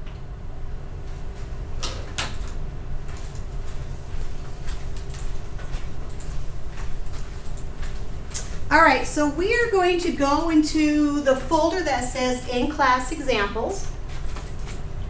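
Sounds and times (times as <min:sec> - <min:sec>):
room rumble and hum: 0:00.0 - 0:15.0.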